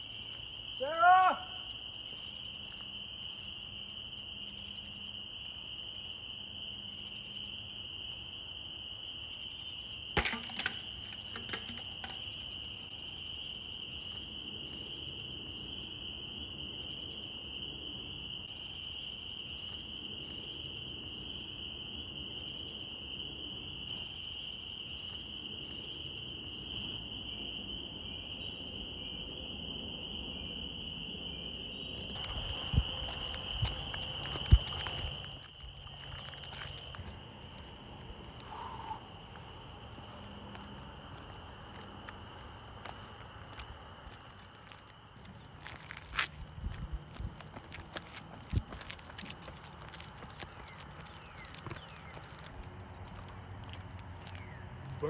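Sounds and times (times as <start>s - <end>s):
high-pitched insect trill: 0.0s - 55.0s.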